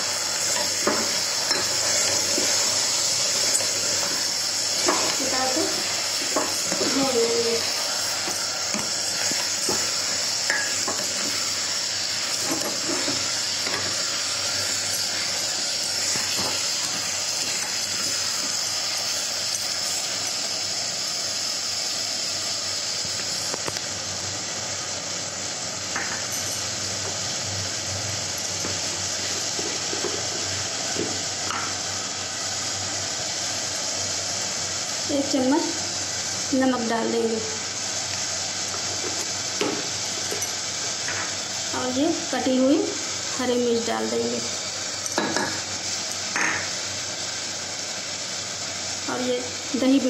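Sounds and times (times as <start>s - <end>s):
food sizzling in a pot: 0.0s - 50.0s.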